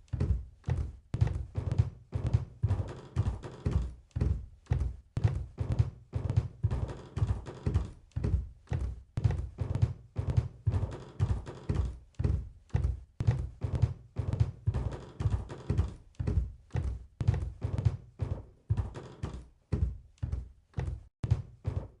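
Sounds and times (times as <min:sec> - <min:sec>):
stampede of heavy footfalls: 0:00.0 - 0:22.0.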